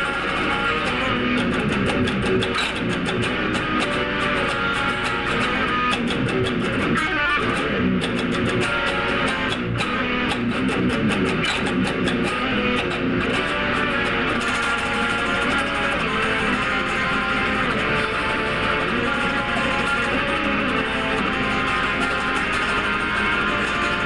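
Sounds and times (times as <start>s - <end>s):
electric guitar fast picked run: 0.0s - 24.0s.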